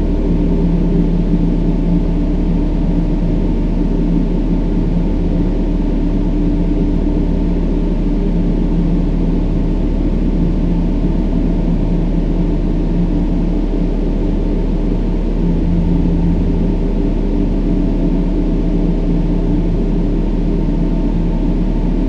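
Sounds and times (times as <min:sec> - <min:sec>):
deep brown noise rumble: 0:00.0 - 0:22.0
low steady hum: 0:00.0 - 0:22.0.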